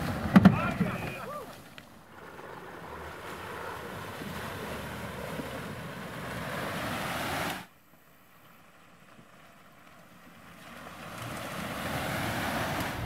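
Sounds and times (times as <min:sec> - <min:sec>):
vehicle wheels churning through mud: 0:00.0 - 0:07.7, 0:08.6 - 0:13.0.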